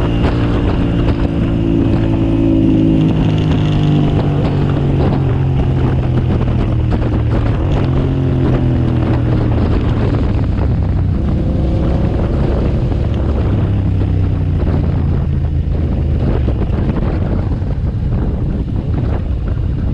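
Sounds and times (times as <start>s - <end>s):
motorcycle engine running: 0.0s - 19.9s
wind on microphone: 0.0s - 19.9s.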